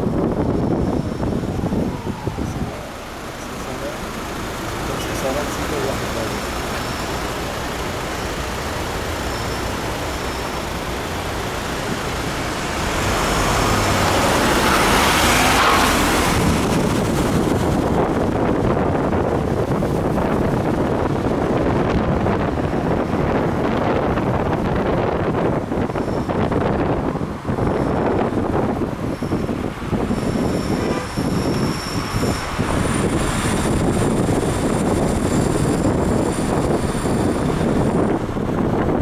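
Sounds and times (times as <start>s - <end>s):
cars driving past: 0.0s - 39.0s
road noise hum: 0.0s - 39.0s
vehicle passing loudly: 0.7s - 38.9s.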